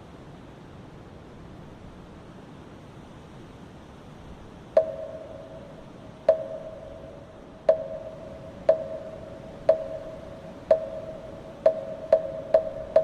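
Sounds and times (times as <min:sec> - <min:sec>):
wind hiss: 0:00.0 - 0:13.0.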